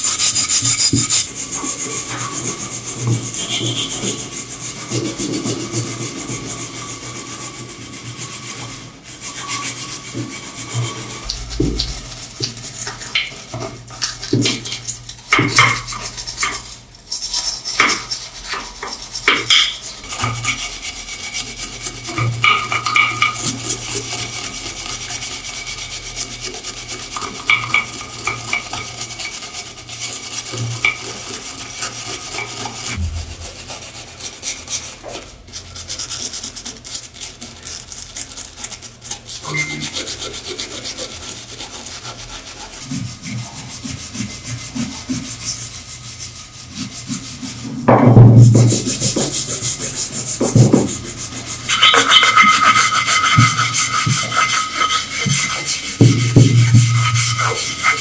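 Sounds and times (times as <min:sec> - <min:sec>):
wire brush scratching metal: 0:00.0 - 0:58.0.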